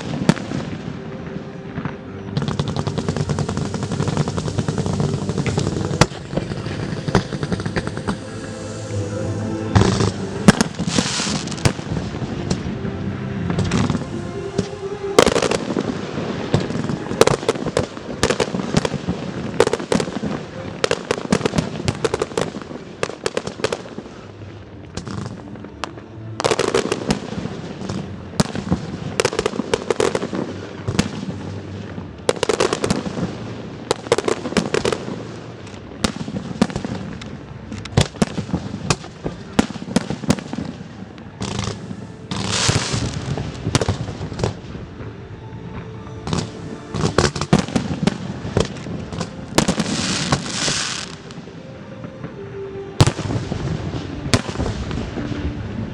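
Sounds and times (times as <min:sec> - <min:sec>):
fireworks bangs and crackling: 0:00.0 - 0:09.0, 0:09.6 - 0:12.8, 0:13.5 - 0:52.4, 0:53.0 - 0:55.9.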